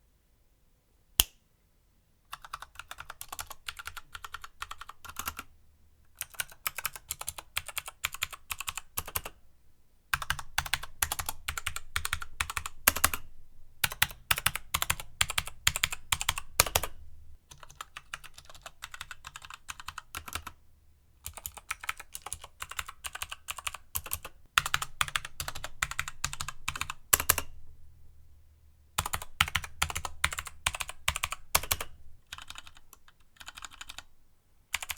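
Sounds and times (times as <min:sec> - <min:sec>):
fast typing on mechanical keyboard: 0:02.3 - 0:05.5, 0:06.2 - 0:09.4, 0:10.2 - 0:20.6, 0:21.2 - 0:27.5, 0:29.0 - 0:34.1.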